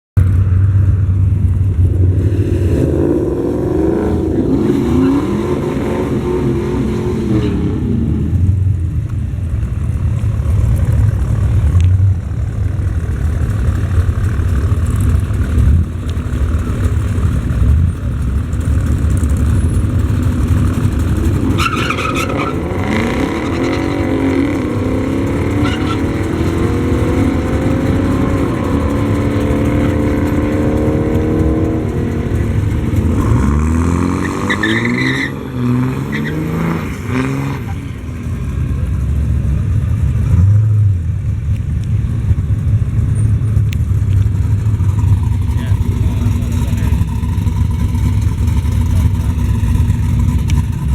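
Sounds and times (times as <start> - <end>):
engine accelerating: 0.2 - 50.9
drag racing car engines revving: 0.3 - 50.9.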